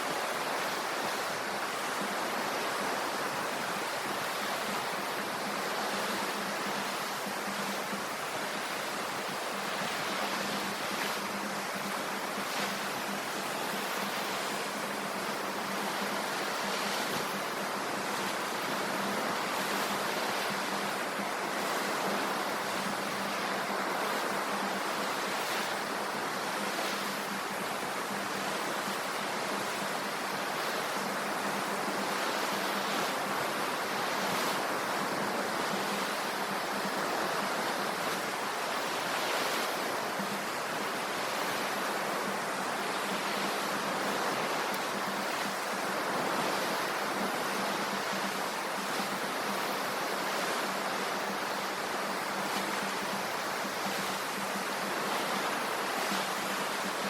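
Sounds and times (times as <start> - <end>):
ocean surf washing on shore: 0.0 - 57.0.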